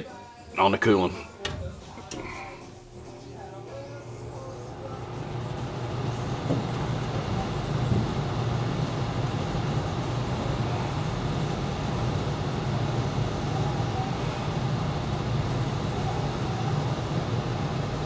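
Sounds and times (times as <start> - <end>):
furnace blower running: 1.1 - 18.0.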